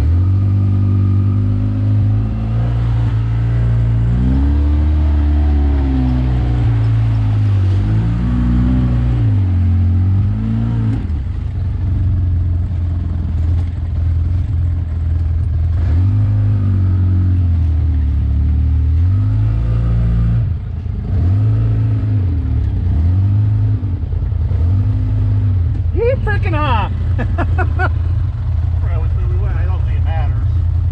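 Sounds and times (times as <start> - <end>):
utility vehicle engine revving: 0.0 - 30.9.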